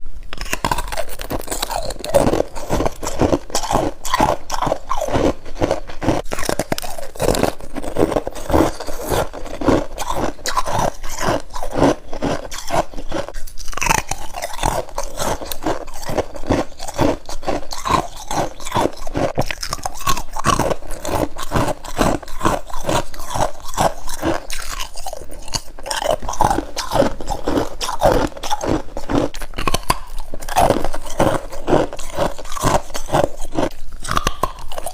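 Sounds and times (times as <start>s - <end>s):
person crunching frost: 0.3s - 34.9s.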